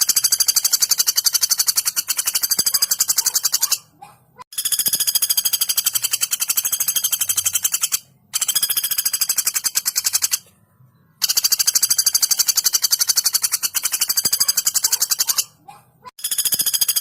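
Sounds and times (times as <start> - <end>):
woodpecker rattling trills: 0.0 - 3.9, 4.5 - 10.5, 11.2 - 17.0.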